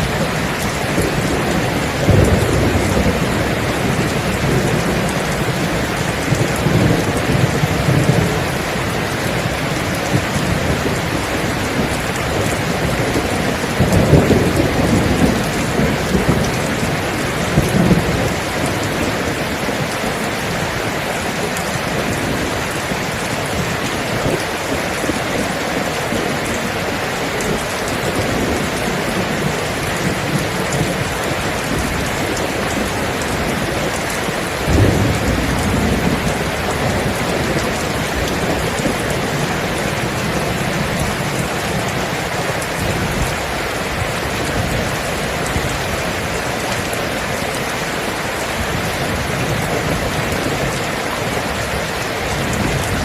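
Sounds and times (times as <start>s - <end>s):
heavy rain: 0.0s - 53.0s
thunder crack and rumble: 0.1s - 43.3s.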